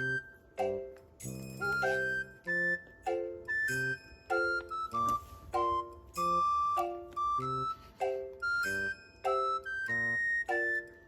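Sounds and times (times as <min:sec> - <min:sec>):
bouncy keyboard and bell music: 0:00.0 - 0:11.0.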